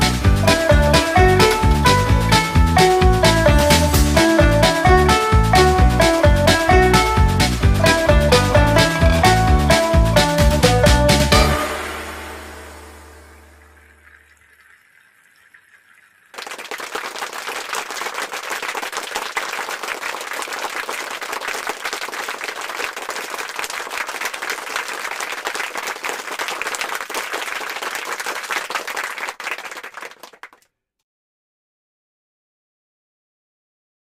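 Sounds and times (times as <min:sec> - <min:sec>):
crowd applause: 0:00.0 - 0:13.3, 0:16.4 - 0:30.6.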